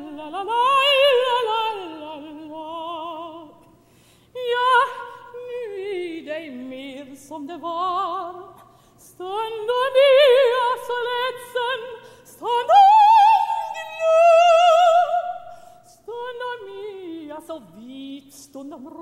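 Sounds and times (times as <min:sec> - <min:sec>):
operatic soprano singing: 0:00.0 - 0:03.7, 0:04.3 - 0:19.0.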